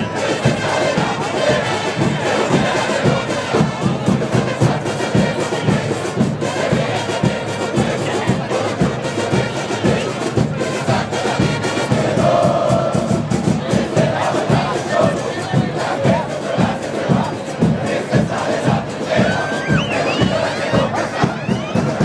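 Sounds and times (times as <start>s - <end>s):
crowd joining in: 0.0s - 22.0s
drums pounding a beat: 0.0s - 22.0s.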